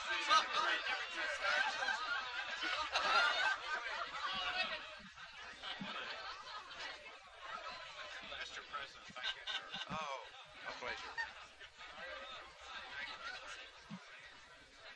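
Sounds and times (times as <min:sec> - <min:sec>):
people chattering: 0:00.0 - 0:14.9
people laughing: 0:00.0 - 0:14.9.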